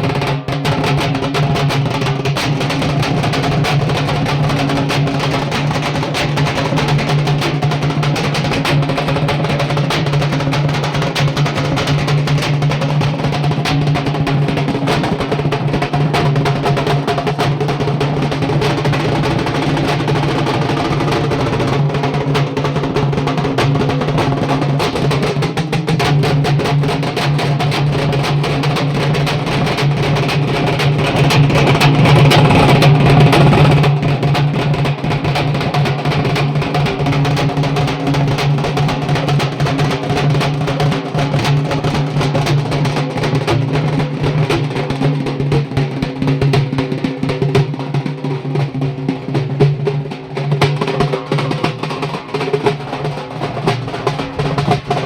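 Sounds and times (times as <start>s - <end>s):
frame drums beaten fast: 0.0s - 55.0s.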